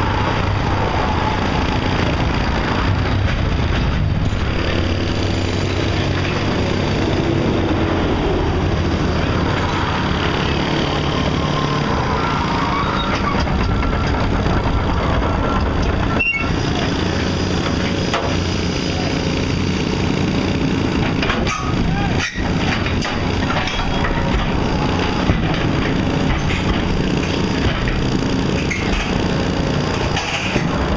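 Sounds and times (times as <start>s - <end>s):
heavy machinery diesel engines: 0.0s - 30.9s.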